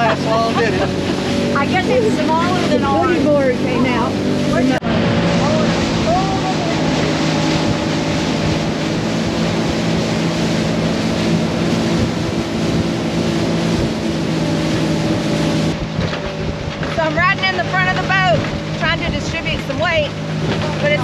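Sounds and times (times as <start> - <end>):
rush of wind and water: 0.0 - 21.0.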